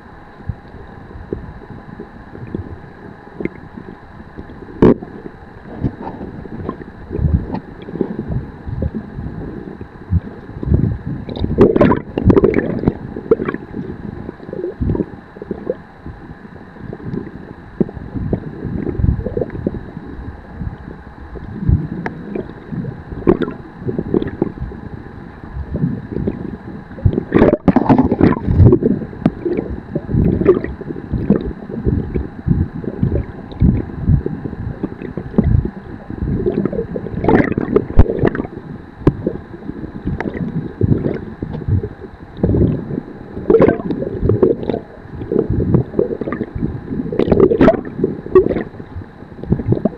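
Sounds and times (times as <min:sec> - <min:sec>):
faint high whine: 0:00.0 - 0:49.9
water sloshing underwater: 0:00.0 - 0:49.9.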